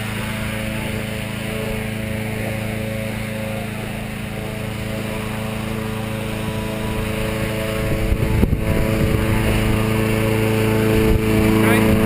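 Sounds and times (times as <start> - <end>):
inflator fan engine running: 0.0 - 12.0.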